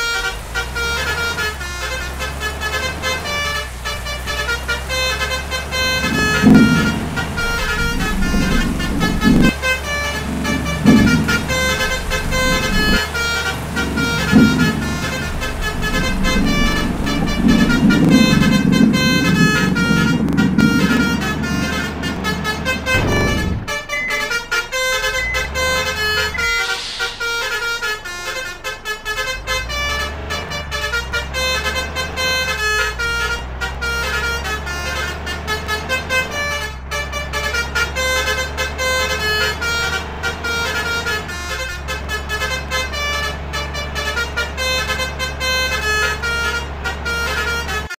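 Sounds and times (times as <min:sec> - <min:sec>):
bus engine rumble: 0:00.0 - 0:47.9
multi-trumpet air horn tune: 0:00.0 - 0:47.9.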